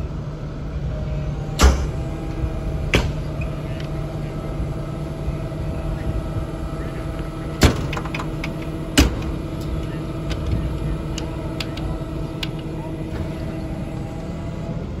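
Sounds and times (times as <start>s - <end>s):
engine and hydraulics humming: 0.0s - 15.0s.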